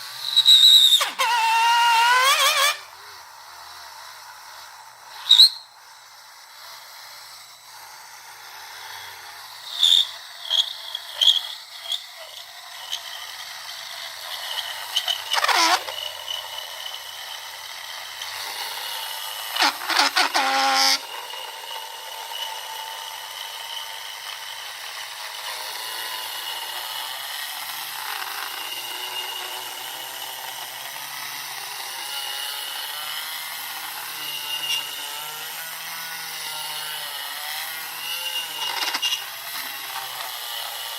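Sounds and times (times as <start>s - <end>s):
grinding bursts: 0.0s - 40.9s
rotary tool whining: 0.0s - 40.9s.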